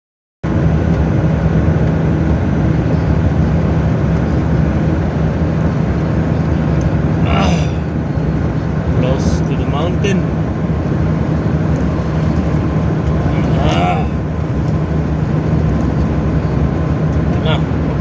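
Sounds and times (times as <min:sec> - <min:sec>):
road noise: 0:00.4 - 0:18.0
truck engine droning: 0:00.5 - 0:18.0.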